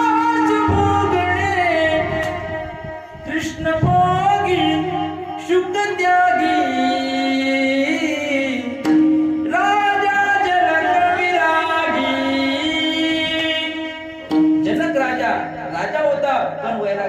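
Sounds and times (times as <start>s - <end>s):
man singing devotional melody: 0.0s - 17.0s
musical accompaniment: 0.0s - 17.0s.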